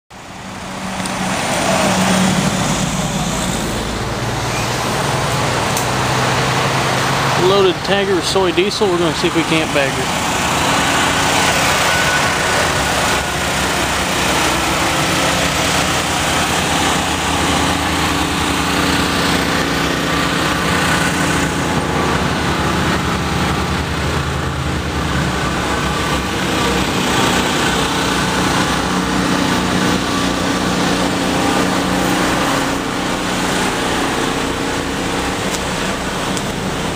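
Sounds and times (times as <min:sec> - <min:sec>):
engine running steadily: 0:00.1 - 0:36.9.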